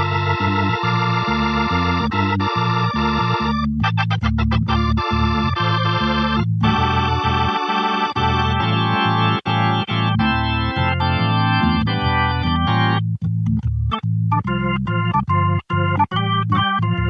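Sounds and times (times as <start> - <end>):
organ chords over bass line: 0.0 - 17.0.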